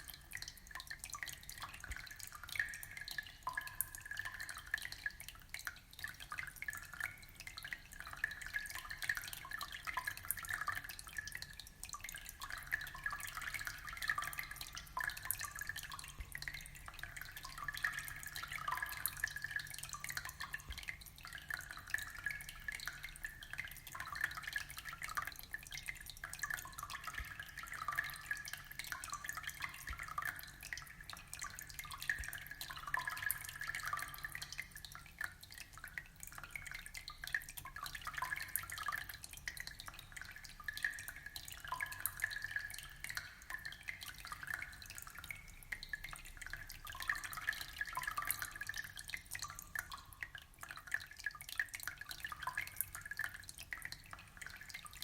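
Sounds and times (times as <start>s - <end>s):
aquarium water trickling and dripping: 0.0s - 55.0s.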